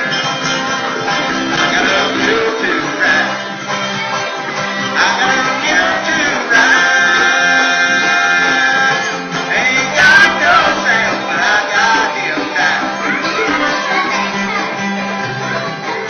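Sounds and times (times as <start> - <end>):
country string band playing: 0.0 - 16.0
person singing: 0.0 - 16.0.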